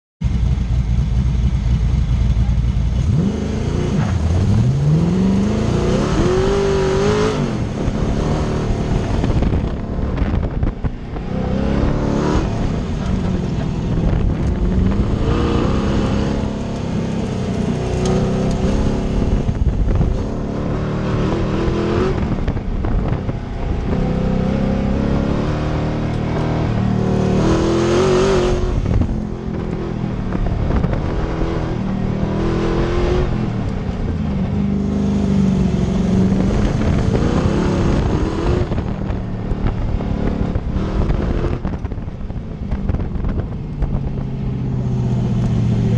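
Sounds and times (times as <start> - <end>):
race car engine revving: 0.3 - 45.9.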